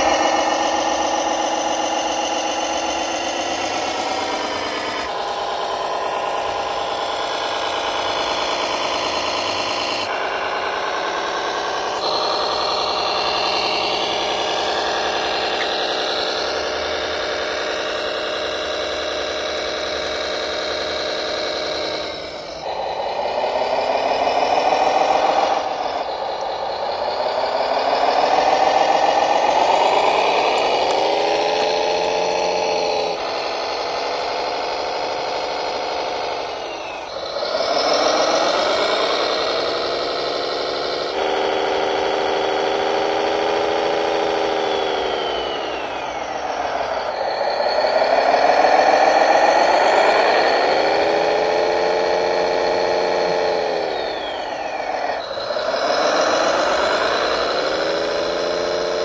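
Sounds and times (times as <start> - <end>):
model tractor mechanical drone: 0.0 - 59.0.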